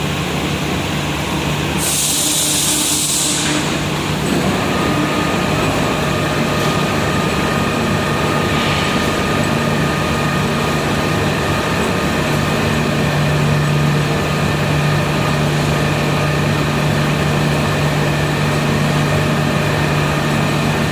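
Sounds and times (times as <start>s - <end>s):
furnace machinery humming: 0.0s - 20.9s.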